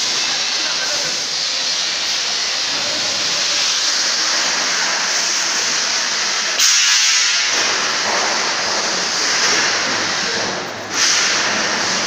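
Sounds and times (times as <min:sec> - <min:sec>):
loud steady hissing: 0:00.0 - 0:12.0.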